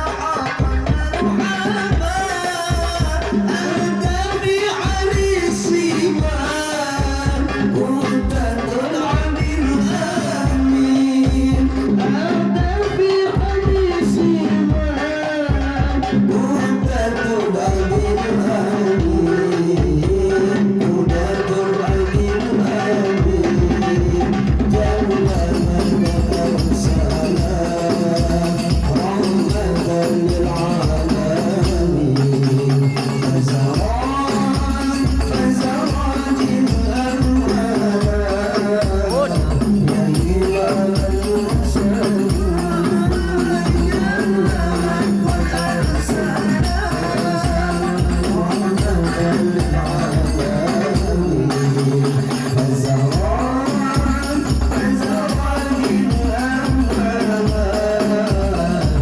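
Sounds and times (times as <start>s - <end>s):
frame drums beating: 0.0s - 59.0s
jingling percussion: 0.0s - 59.0s
men singing devotional melody: 0.0s - 59.0s.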